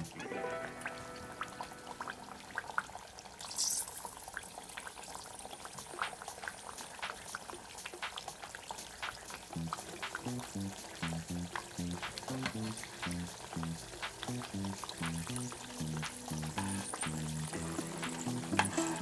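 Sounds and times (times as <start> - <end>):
oil crackling in a frying pan: 0.8 - 19.0
oil hissing: 1.1 - 19.0.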